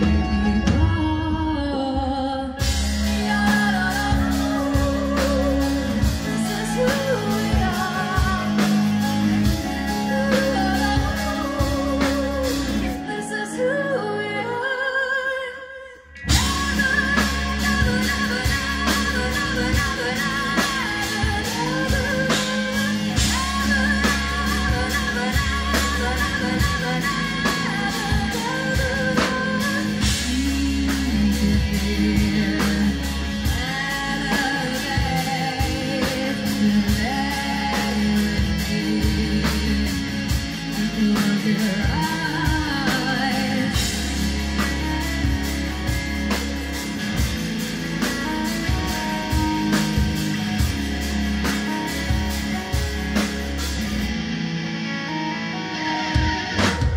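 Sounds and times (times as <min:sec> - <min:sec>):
bass guitar: 0:00.0 - 0:15.1, 0:15.9 - 0:56.9
woman singing lead vocal: 0:00.0 - 0:54.1
drums: 0:00.0 - 0:56.9
electric guitar: 0:00.0 - 0:56.9.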